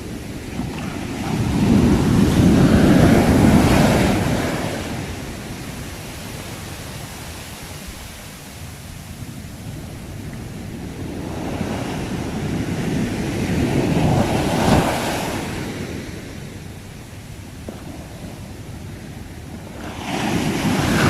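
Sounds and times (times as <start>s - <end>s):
sea waves surf: 0.0s - 21.0s.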